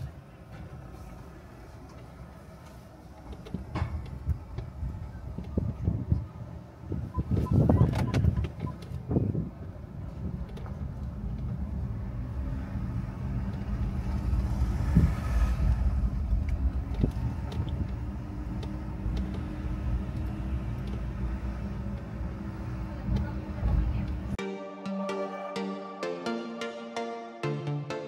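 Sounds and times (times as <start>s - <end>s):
car engine and tyres rumbling: 0.0s - 24.4s.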